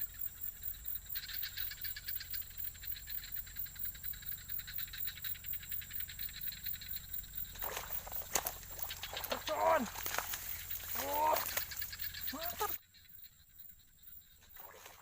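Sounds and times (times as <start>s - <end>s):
chorus of small calling animals: 0.0s - 15.0s.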